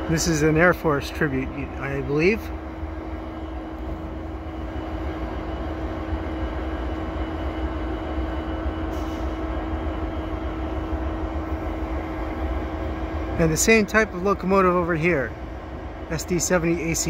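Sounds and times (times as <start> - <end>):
diesel locomotives idling: 0.0 - 17.0.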